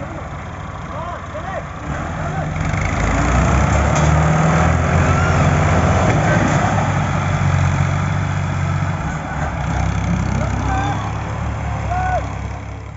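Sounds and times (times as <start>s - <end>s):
tractor diesel engine under load: 0.0s - 12.9s.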